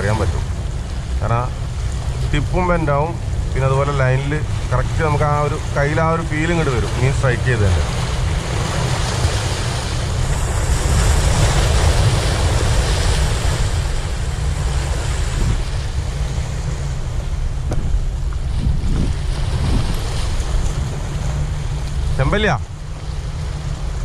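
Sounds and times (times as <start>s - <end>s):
waves breaking on rocks: 0.0s - 24.0s
wind buffeting the microphone: 0.0s - 24.0s.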